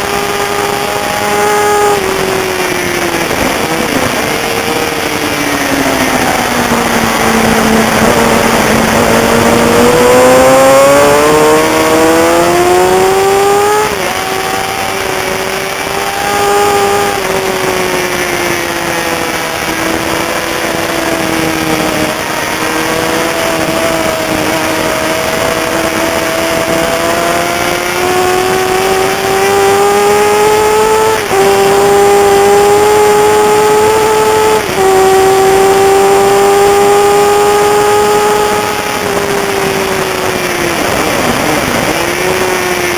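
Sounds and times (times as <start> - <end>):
motorcycle engine revving: 0.0 - 42.9
wind noise: 0.0 - 42.9.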